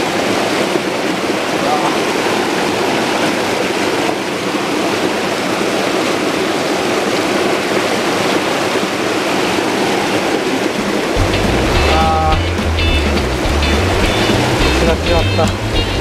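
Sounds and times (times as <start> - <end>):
stream rushing over boulders: 0.0 - 16.0.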